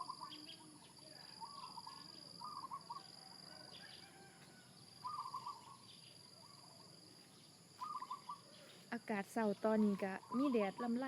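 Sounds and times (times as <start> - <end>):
high insect trill: 0.0 - 11.0.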